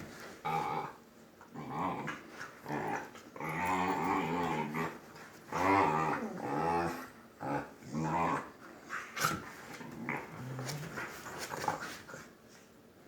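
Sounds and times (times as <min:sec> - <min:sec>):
dog growling: 0:00.4 - 0:12.3.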